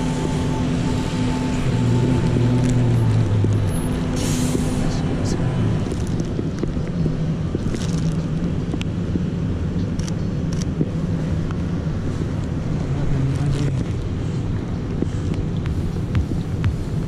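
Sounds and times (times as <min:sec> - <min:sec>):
street traffic noise: 0:00.0 - 0:17.0
wind rumbling on microphone: 0:00.0 - 0:17.0.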